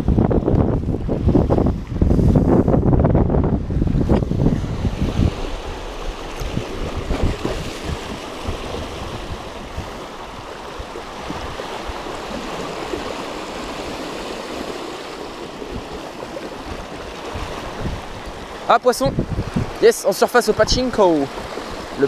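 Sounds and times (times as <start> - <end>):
wind buffeting microphone: 0.0 - 22.0
waves splashing over rocks: 3.6 - 22.0.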